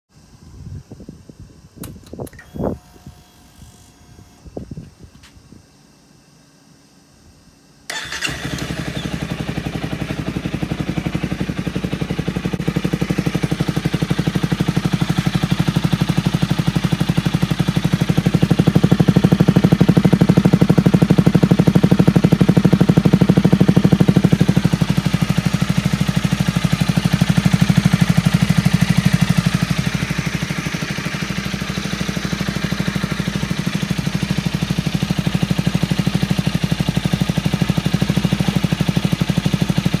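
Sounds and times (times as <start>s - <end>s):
motorcycle engine starting and idling: 7.8s - 40.0s.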